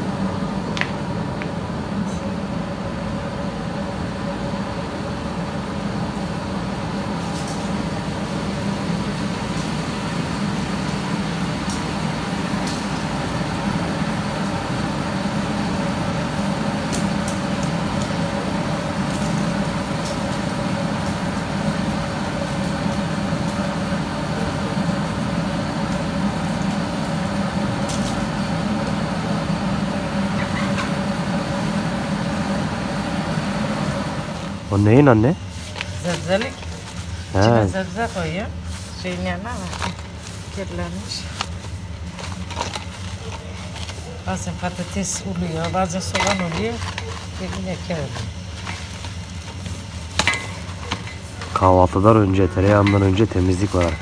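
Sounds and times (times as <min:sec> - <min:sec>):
butter churn motor humming: 0:00.0 - 0:54.0.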